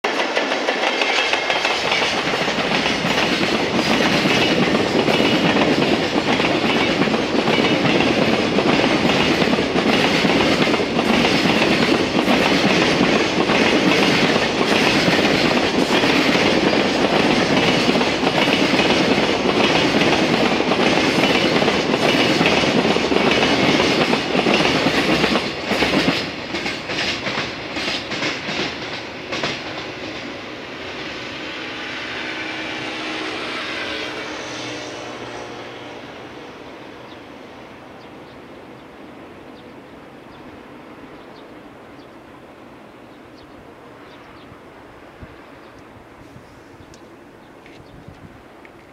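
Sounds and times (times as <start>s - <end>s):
freight train passing: 0.0s - 48.9s.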